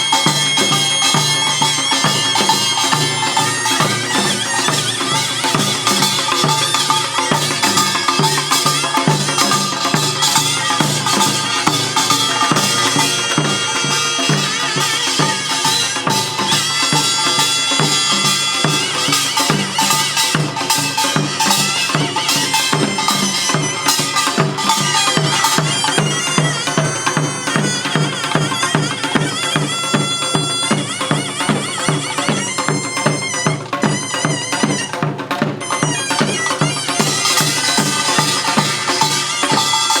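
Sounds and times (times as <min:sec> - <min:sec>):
gongs and drums beat: 0:00.0 - 0:40.0
reedy shawm melody: 0:00.0 - 0:40.0.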